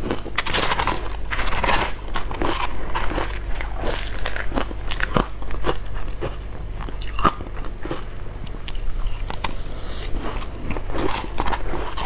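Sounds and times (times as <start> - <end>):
ice being chewed with crunches: 0.0 - 12.0.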